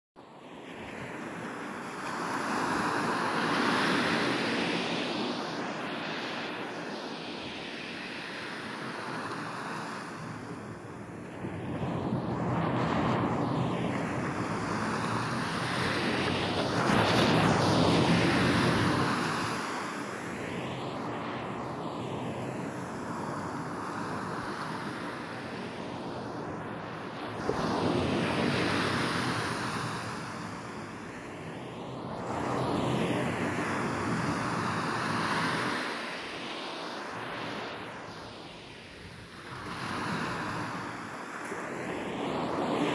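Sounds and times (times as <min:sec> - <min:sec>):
ocean waves breaking on beach: 0:00.5 - 0:42.9.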